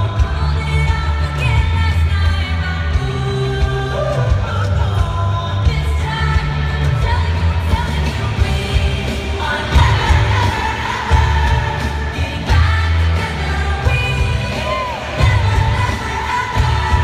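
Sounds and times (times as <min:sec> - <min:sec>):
live pop-rock band: 0:00.0 - 0:17.0
woman singing: 0:00.0 - 0:17.0.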